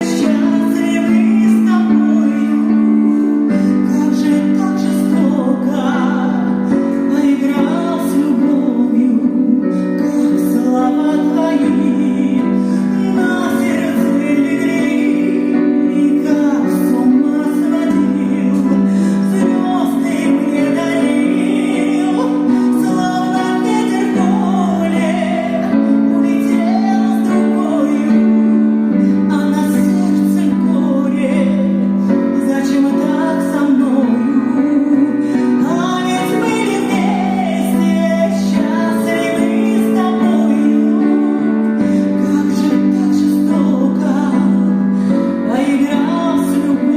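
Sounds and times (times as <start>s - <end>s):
woman singing: 0.0s - 46.9s.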